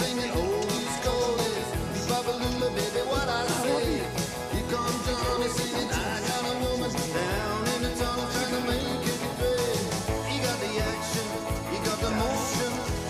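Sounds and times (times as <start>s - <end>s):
man singing: 0.0s - 13.0s
rock song: 0.0s - 13.0s.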